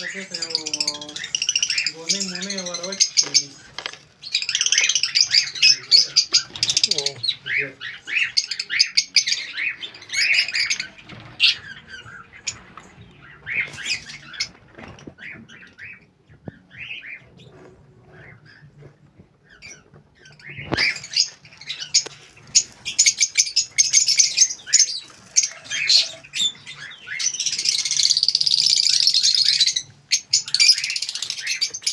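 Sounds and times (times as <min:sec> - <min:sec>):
lovebirds chirping and squawking: 0:00.0 - 0:31.9.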